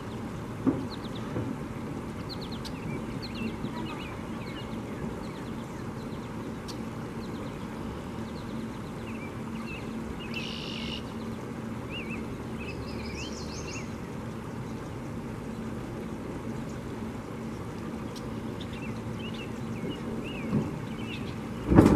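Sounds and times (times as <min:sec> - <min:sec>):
songbirds chirping: 0:00.0 - 0:21.9.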